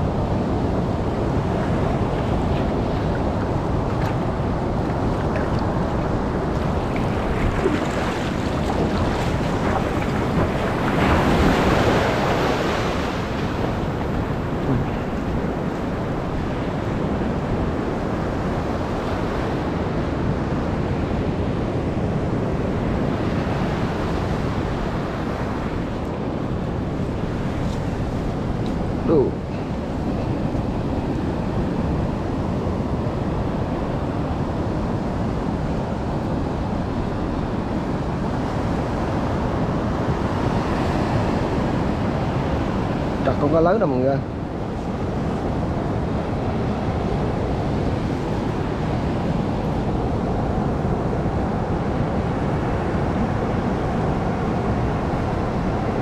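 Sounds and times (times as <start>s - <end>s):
surf breaking on shore: 0.0s - 56.0s
wind buffeting microphone: 0.0s - 56.0s.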